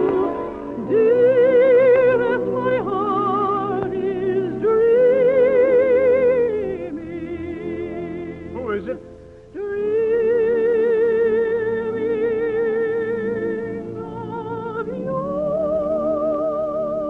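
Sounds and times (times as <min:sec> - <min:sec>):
soft orchestral accompaniment: 0:00.0 - 0:17.0
soprano voice singing: 0:00.0 - 0:17.0.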